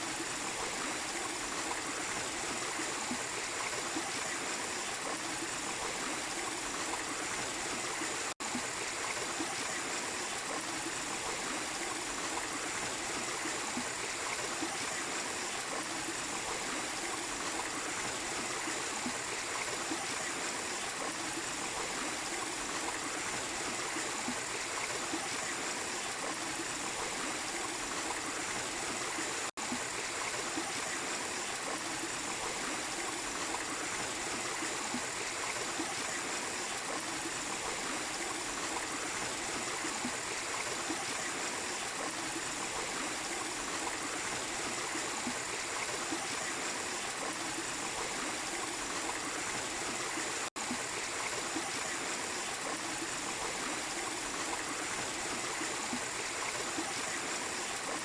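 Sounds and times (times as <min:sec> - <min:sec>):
waterfall and stream running: 0:00.0 - 0:58.0.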